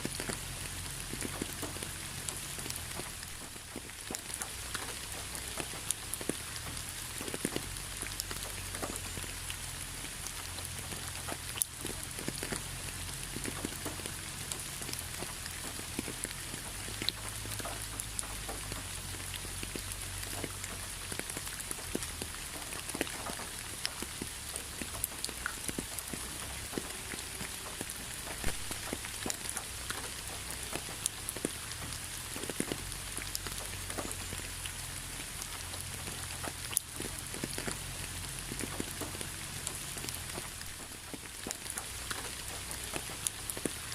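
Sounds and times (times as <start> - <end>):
rain drops tapping: 0.0 - 43.9.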